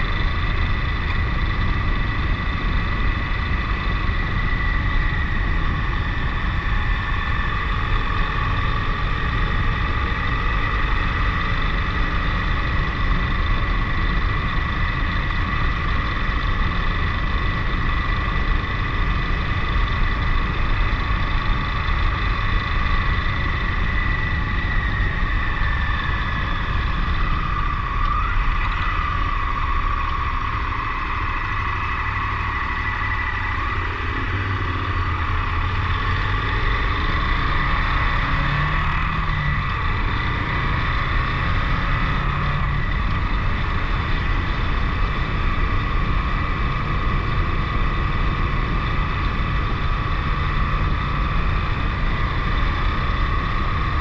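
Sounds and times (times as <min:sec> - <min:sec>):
motorcycle engine cruising: 0:00.0 - 0:54.0
steady whine: 0:00.0 - 0:54.0.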